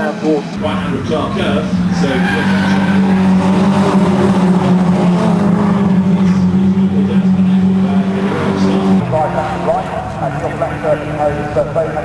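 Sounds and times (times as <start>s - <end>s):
racing car engine at high revs: 0.6s - 12.0s.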